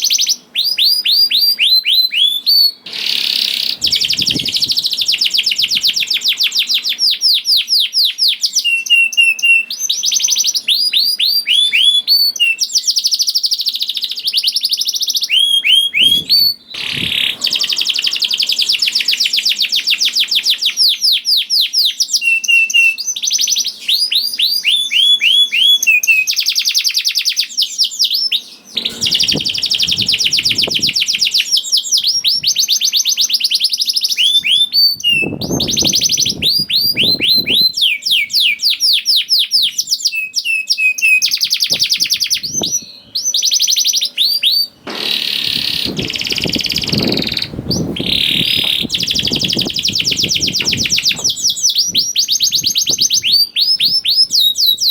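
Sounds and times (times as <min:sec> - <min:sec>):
canary trilling song: 0:00.0 - 0:54.9.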